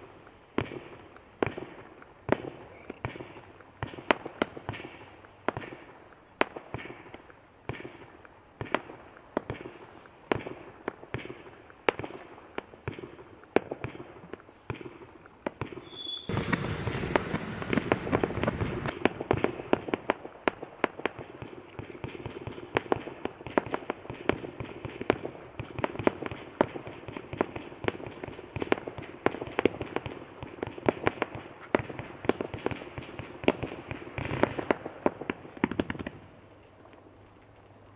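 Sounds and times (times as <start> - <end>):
firework barrage pops: 0.6 - 36.3.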